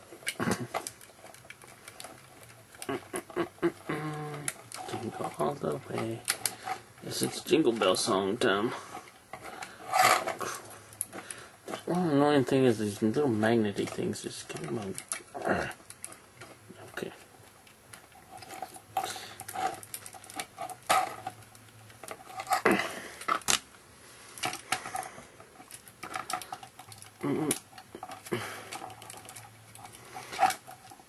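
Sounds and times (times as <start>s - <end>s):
knocks of toy pieces shifted: 0.0s - 31.0s
plastic toy parts clicking: 0.1s - 23.8s, 24.4s - 31.0s.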